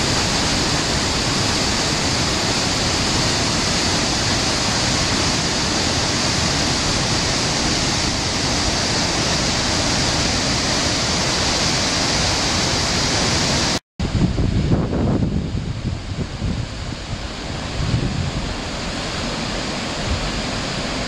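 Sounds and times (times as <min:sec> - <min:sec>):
waterfall rushing over rocks: 0:00.0 - 0:13.8, 0:14.4 - 0:21.0.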